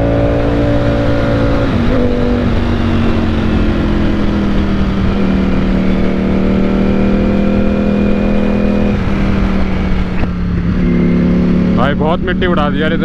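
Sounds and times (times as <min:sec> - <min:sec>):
wind rush: 0:00.0 - 0:12.4
motorcycle engine at speed: 0:00.0 - 0:13.0.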